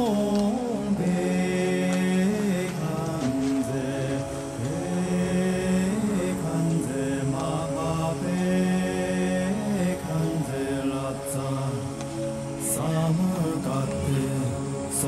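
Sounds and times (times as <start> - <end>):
chanted voices singing held notes: 0.0 - 15.0.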